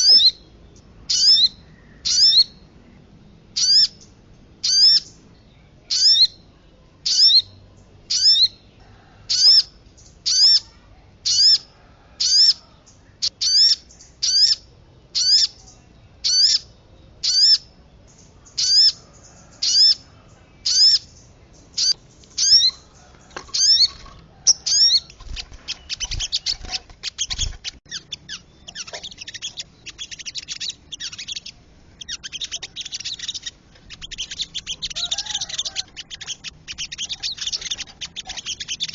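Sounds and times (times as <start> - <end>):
high sweeping bird call: 0.0 - 0.5, 1.1 - 2.7, 3.6 - 38.9
fast twittering bird chatter: 0.0 - 38.9.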